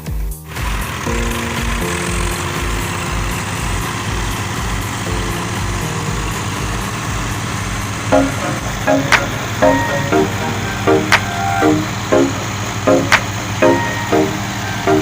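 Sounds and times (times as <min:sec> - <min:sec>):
music with low beat: 0:00.0 - 0:15.0
tractor diesel engines running: 0:00.5 - 0:15.0.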